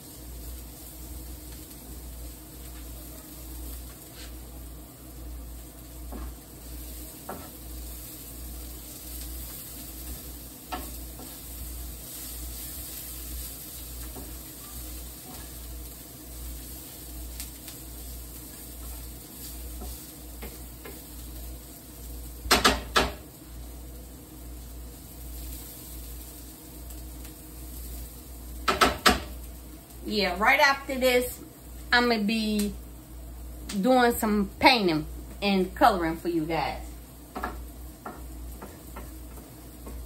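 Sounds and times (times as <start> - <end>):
vegetables sizzling in a frying pan: 0.0 - 40.0.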